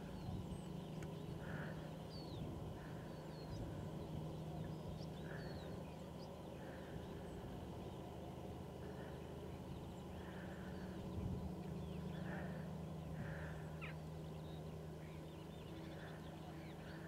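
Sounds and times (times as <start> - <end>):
faint low hum: 0.0 - 17.0
waterbirds calling: 0.0 - 17.0.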